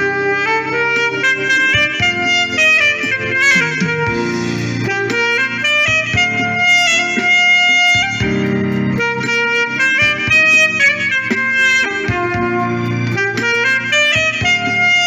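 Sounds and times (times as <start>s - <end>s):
saxophone melody: 0.0s - 15.0s
backing track with guitar: 0.4s - 15.0s.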